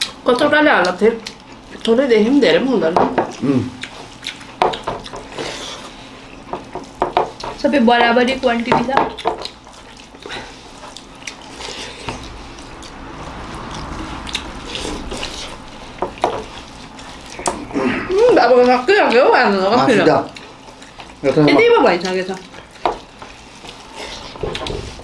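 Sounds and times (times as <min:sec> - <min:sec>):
chewing: 0:00.0 - 0:02.4, 0:03.3 - 0:07.6, 0:08.6 - 0:25.0
hands squishing food on plates: 0:00.0 - 0:25.0.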